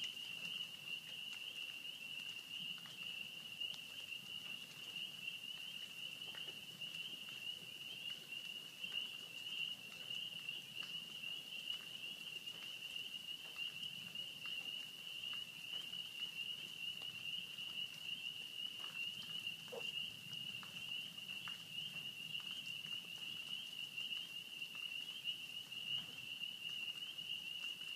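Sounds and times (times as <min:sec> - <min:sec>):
light rain pattering: 0:00.0 - 0:27.9.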